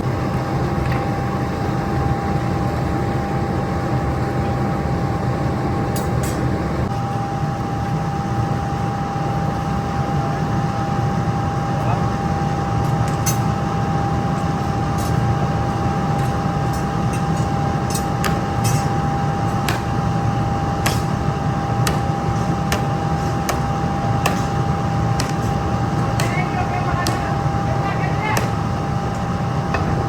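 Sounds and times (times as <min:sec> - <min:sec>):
factory machinery whining: 0:00.0 - 0:30.0.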